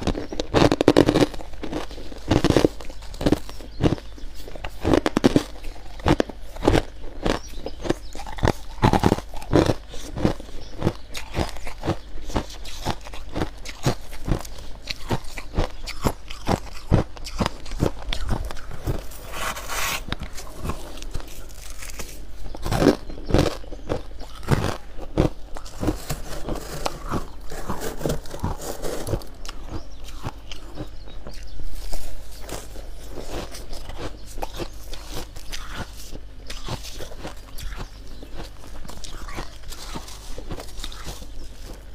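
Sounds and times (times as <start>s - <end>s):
chewing frost crunches: 0.0s - 41.9s.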